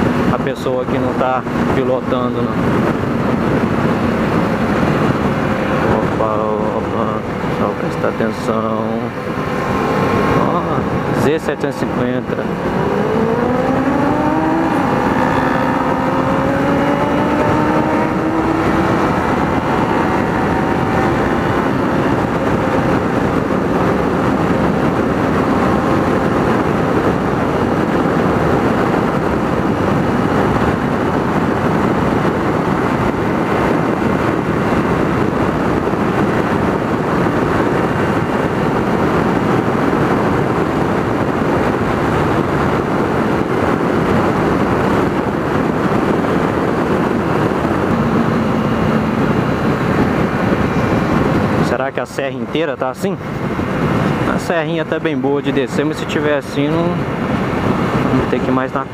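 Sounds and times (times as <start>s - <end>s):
wind rush: 0.0s - 58.9s
motorcycle engine: 1.0s - 54.3s.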